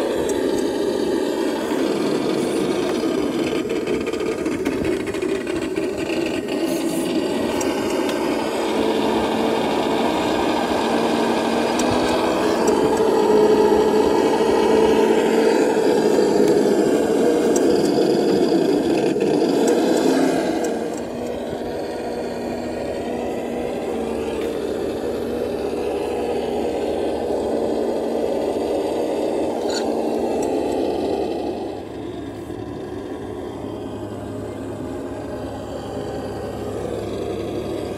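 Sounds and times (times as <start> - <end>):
rattle and scrape: 0.0 - 33.3
rc car motor whirring: 0.0 - 37.9.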